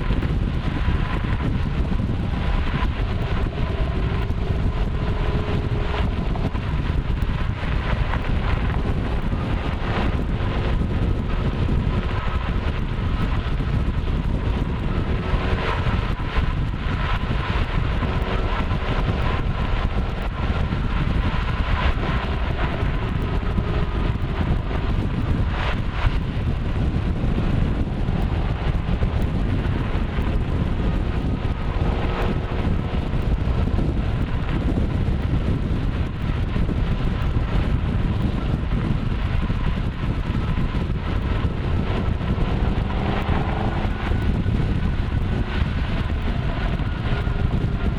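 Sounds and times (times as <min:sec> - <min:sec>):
car engine running: 0:00.0 - 0:47.9
exhaust crackles: 0:00.0 - 0:47.9
wind and road noise: 0:00.0 - 0:47.9.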